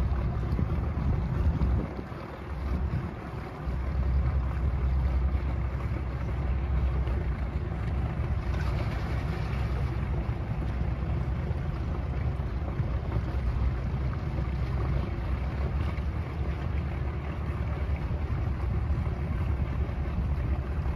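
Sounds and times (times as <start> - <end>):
boat engines running: 0.0 - 20.9
wind on microphone: 0.0 - 20.9.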